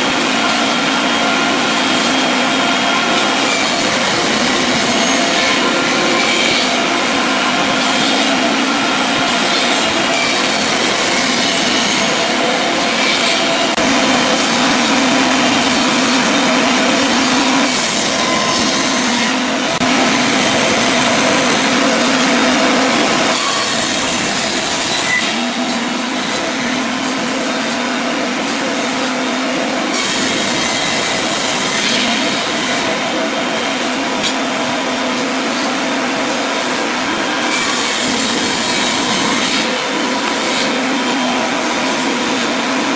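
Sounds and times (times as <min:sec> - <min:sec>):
table saw cutting wood: 0:00.0 - 0:42.9.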